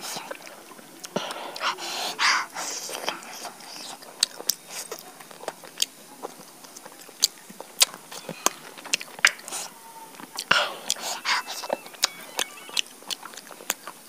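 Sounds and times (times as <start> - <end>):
chewing and biting chicken: 0.0 - 14.0
wet mouth clicks and crackles: 2.6 - 14.0.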